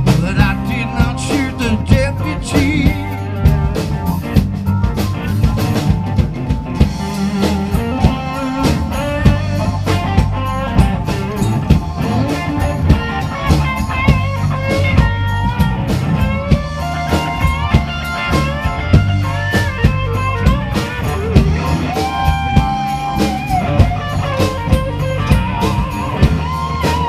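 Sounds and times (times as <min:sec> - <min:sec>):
rock reggae instrumental: 0:00.0 - 0:27.0.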